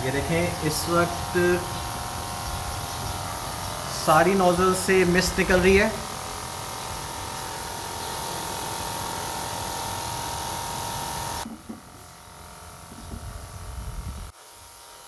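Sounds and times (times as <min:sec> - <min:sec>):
misting pump hiss and whine: 0:00.0 - 0:15.0.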